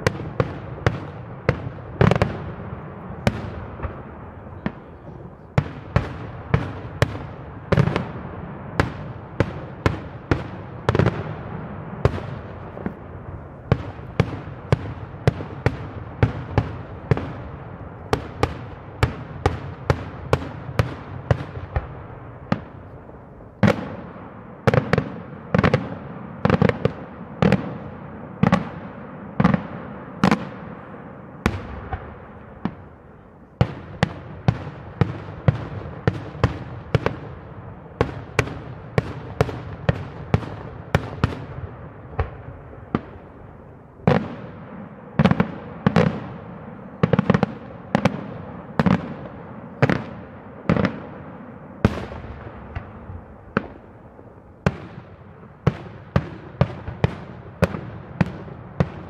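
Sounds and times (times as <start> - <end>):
fireworks bursting with echo: 0.0 - 59.0.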